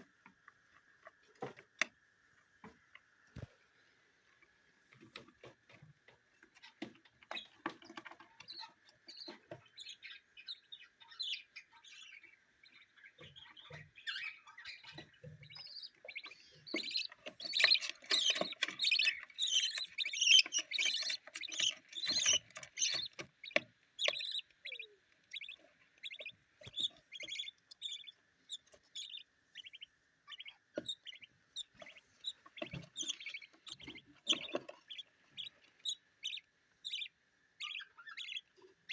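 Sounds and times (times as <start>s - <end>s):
budgerigar chicks chirping: 6.4s - 38.9s.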